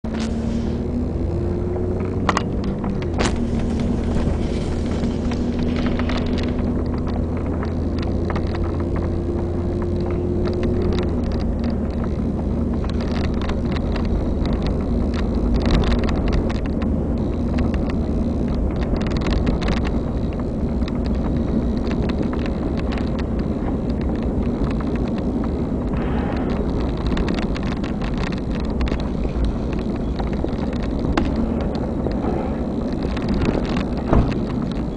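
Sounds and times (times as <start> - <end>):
car engine hum inside vehicle: 0.0 - 34.9
road noise: 0.0 - 34.9
clicks and rattles: 1.5 - 34.9.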